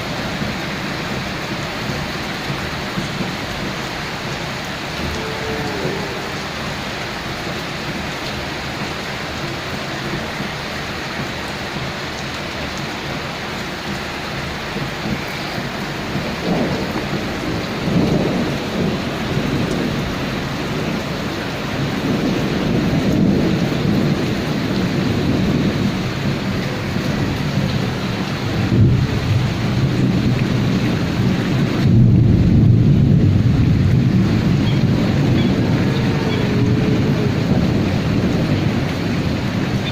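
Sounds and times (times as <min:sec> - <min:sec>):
heavy rain: 0:00.0 - 0:39.9
rolling thunder: 0:01.2 - 0:08.1, 0:14.7 - 0:39.9.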